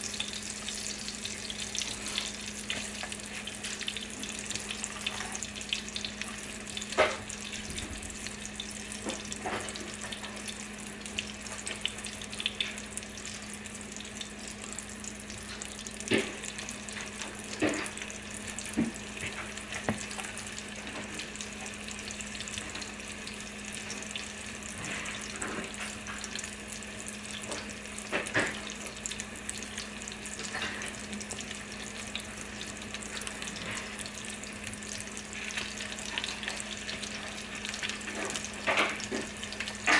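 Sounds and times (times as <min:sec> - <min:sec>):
meat patties sizzling in oil: 0:00.0 - 0:39.9.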